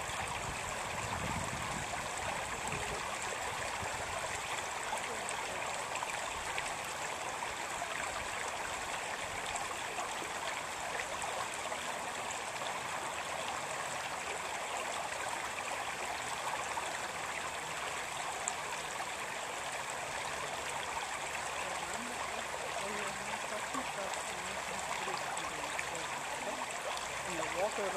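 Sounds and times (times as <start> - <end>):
stream over stones: 0.0 - 27.9.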